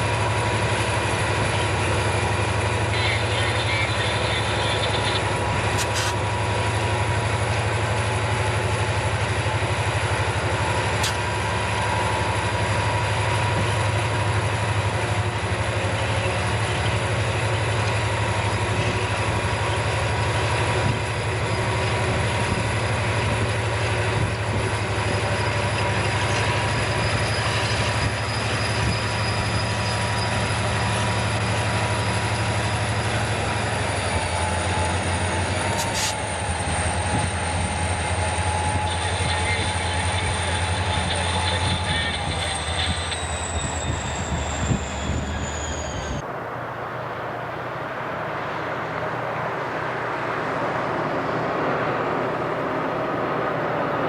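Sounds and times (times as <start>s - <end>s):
train rolling on rails: 0.0s - 54.0s.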